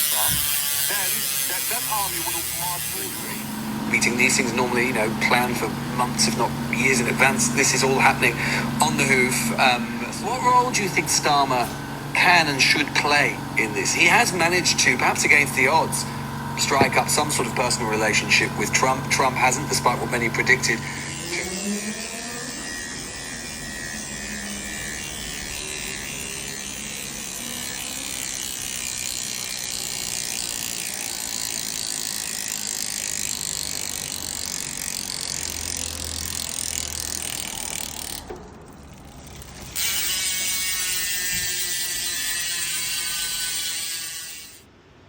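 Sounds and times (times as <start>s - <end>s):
bicycle freehub buzzing: 0.0s - 45.0s.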